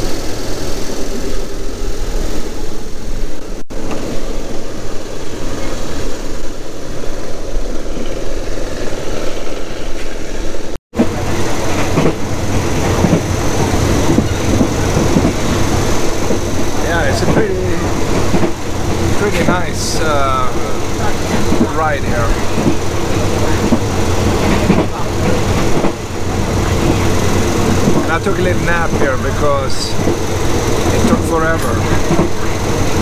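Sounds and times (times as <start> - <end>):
diesel train engine drone: 0.0 - 33.0
train rail noise: 0.0 - 33.0.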